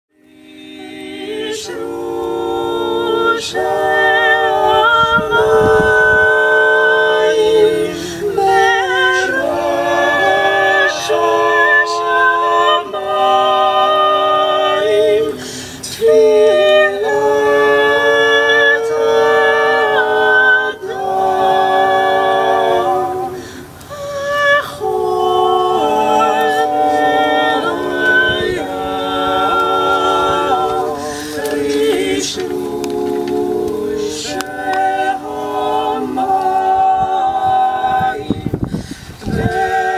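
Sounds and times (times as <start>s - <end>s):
vocal quartet singing a cappella: 0.1s - 39.9s.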